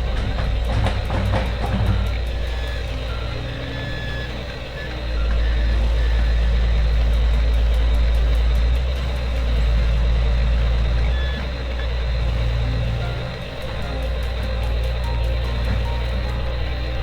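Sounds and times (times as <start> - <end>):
heavy vehicle engine rumbling: 0.0 - 17.0.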